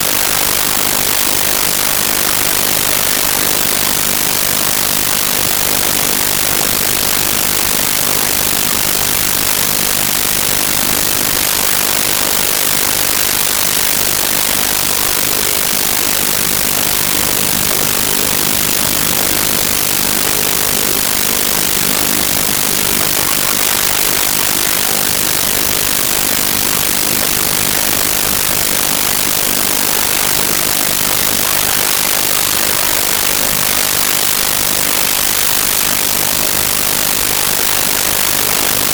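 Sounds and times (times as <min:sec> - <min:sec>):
loud static hiss: 0:00.0 - 0:38.9.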